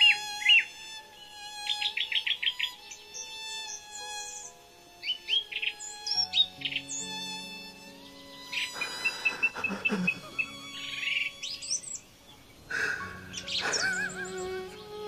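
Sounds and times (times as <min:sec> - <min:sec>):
birds chirping and trilling: 0:00.0 - 0:15.0
soft background music: 0:00.0 - 0:15.0.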